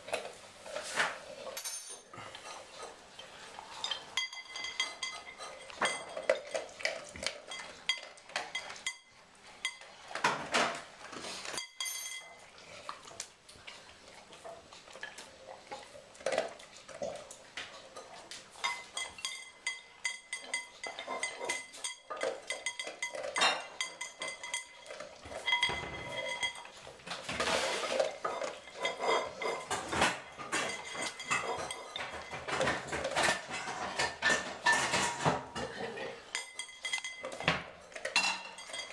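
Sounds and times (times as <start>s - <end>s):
dog eating from ceramic bowl: 0.0s - 38.9s.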